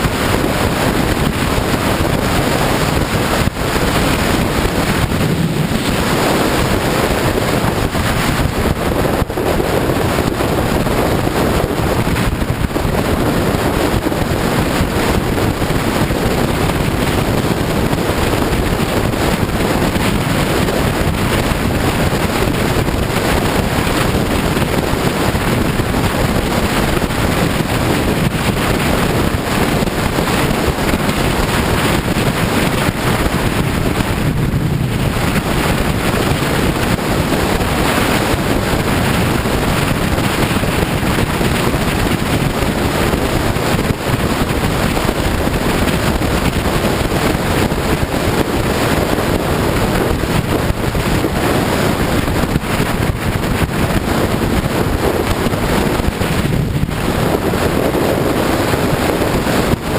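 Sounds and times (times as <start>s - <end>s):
motorcycle running: 0.0s - 59.9s
wind rushing over microphone: 0.0s - 59.9s.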